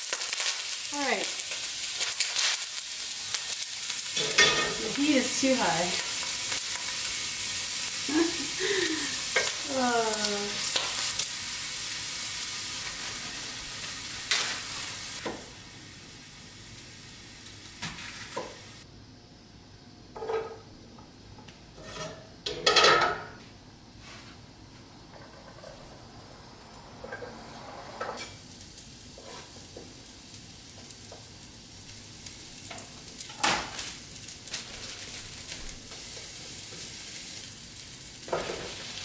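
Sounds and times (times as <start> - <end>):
vegetables sizzling in a frying pan: 0.0 - 39.0.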